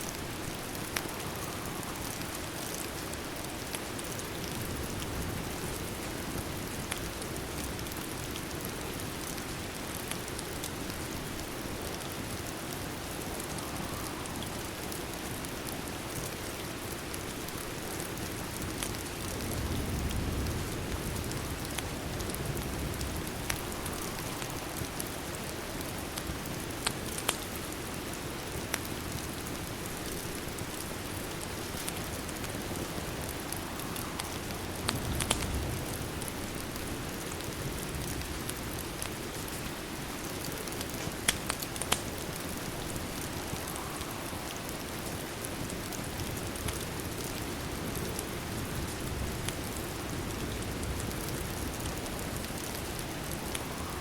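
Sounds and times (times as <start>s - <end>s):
rain falling hiss: 0.0s - 54.0s
fire crackling pops: 0.1s - 54.0s.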